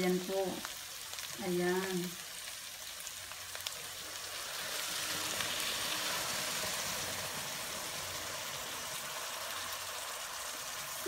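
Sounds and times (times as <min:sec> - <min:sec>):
soda sizzling in hot wok: 0:00.0 - 0:11.0.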